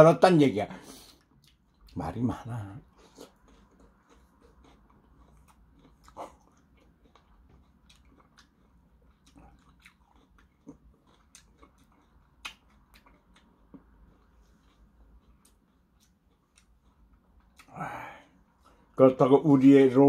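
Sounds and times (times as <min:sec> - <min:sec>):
person chewing crunchy food: 0:00.9 - 0:19.0.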